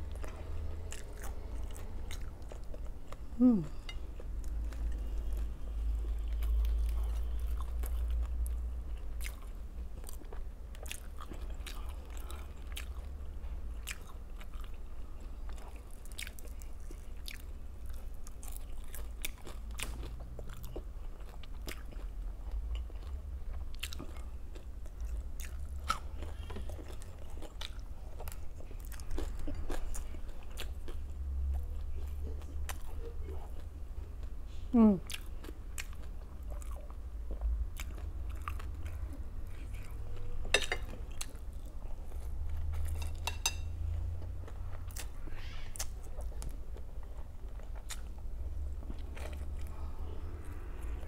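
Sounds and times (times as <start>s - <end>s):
person chewing crunchy food: 0.0s - 34.4s, 35.0s - 51.0s
steady low hum: 0.0s - 51.0s.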